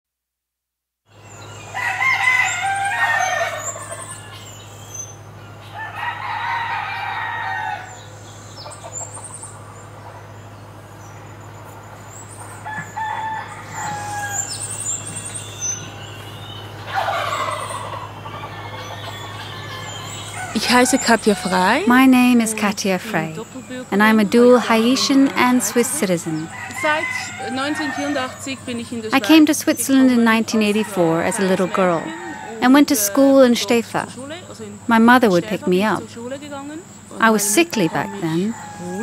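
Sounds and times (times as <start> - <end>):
roosters crowing: 1.1 - 36.1, 36.8 - 39.0
steady low hum: 1.1 - 39.0.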